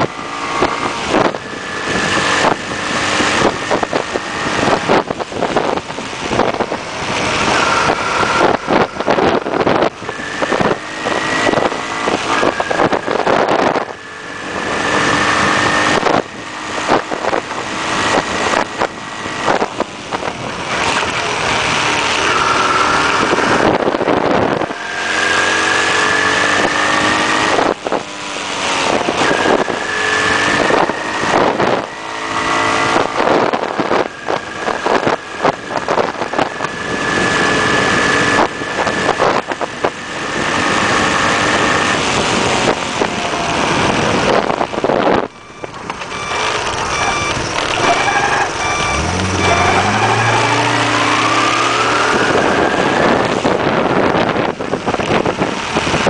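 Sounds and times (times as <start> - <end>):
motorbike engine revving: 0.0 - 56.0
wind on microphone: 0.0 - 56.0.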